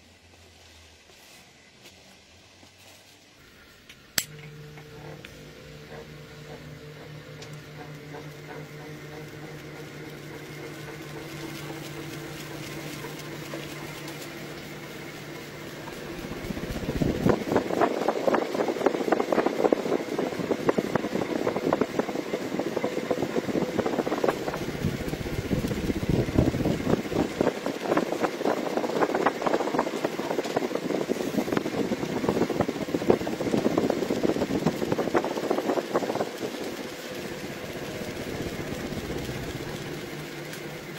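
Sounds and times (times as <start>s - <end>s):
ceiling fan motor rattling: 4.0s - 40.9s.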